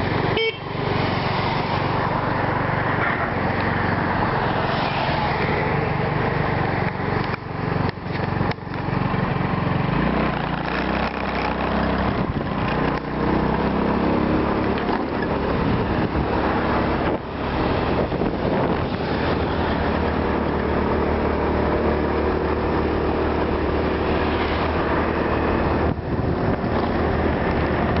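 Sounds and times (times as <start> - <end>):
road noise: 0.0 - 28.0
vehicle engine running: 0.0 - 28.0.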